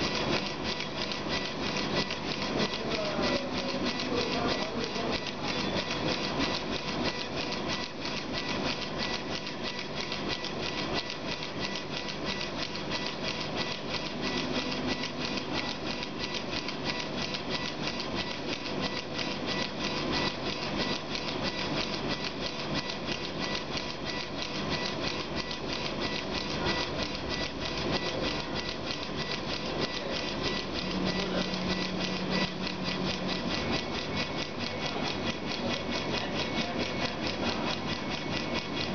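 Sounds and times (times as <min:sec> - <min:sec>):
laser engraver mechanical chatter: 0:00.0 - 0:38.9
steady machine whine: 0:00.0 - 0:38.9.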